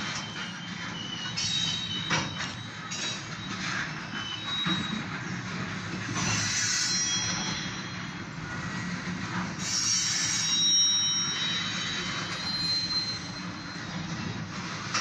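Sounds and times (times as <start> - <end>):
freight train wheels rumbling: 0.0 - 15.0
high-pitched wheel squeals: 0.1 - 15.0.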